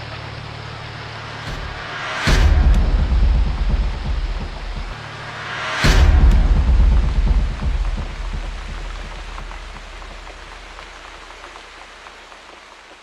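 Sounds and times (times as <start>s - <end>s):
low rumble: 0.0s - 12.2s
rain falling: 0.0s - 13.0s.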